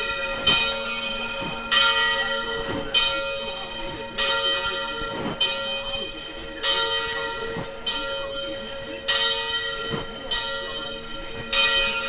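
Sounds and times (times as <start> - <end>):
church bell tolling: 0.0 - 12.0.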